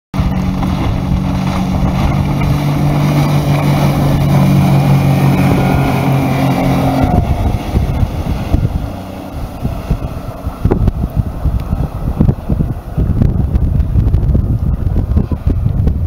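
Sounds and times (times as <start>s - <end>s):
outboard motor drone: 0.2s - 16.0s
wind buffeting microphone: 0.2s - 16.0s.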